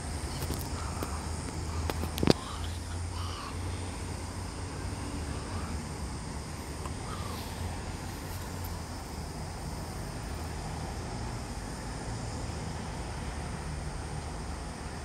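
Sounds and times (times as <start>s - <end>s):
aircraft passing overhead: 0.0s - 15.0s.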